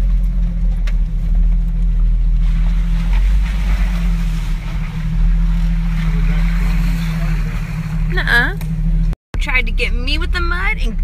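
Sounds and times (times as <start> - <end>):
engine running at low speed: 0.0 - 11.0
road and wind noise: 0.0 - 11.0.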